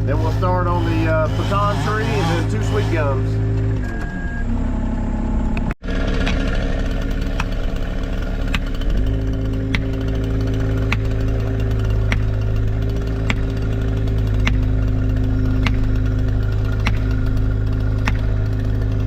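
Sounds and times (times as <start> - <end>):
work machine engine running: 0.0 - 19.0.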